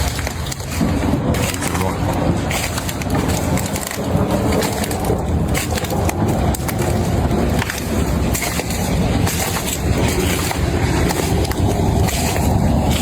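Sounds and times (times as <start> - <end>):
hailstones clattering: 0.0 - 13.0.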